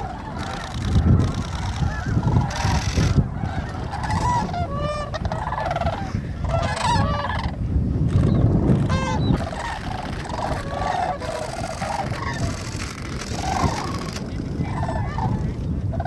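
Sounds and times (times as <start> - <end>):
cranes calling: 0.0 - 16.0.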